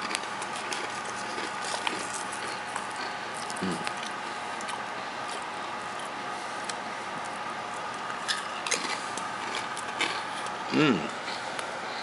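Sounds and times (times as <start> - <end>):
crunchy chip being chewed: 0.0 - 11.5
steady background hum: 0.0 - 12.0.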